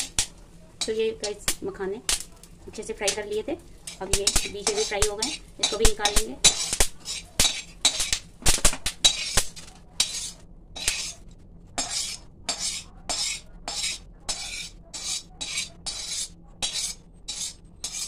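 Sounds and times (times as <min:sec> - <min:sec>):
metal spoon scraping a pan: 0:00.0 - 0:18.0.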